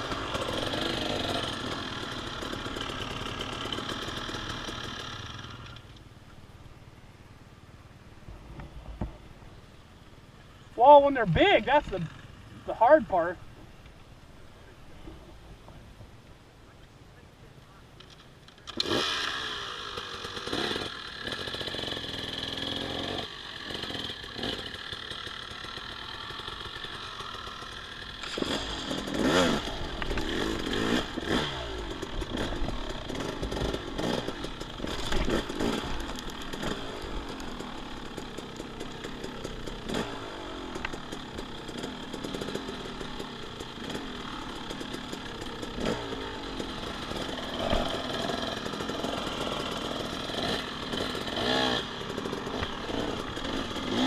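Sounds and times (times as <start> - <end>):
dirt bike engine revving: 0.0 - 5.9, 10.7 - 13.4, 18.6 - 54.0.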